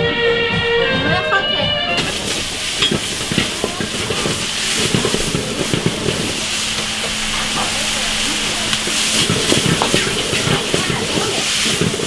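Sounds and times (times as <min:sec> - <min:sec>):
food sizzling in a wok: 0:02.0 - 0:12.0
utensil scraping against pan: 0:02.0 - 0:12.0.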